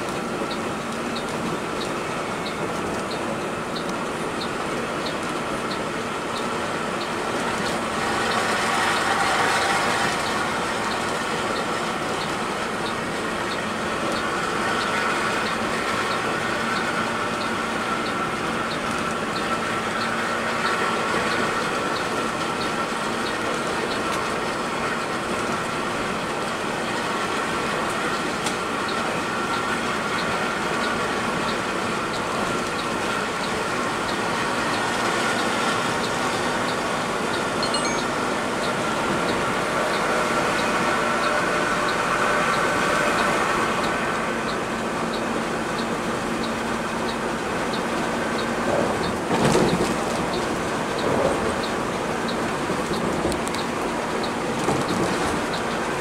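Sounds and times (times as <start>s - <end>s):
coach engine and road noise: 0.0s - 56.0s.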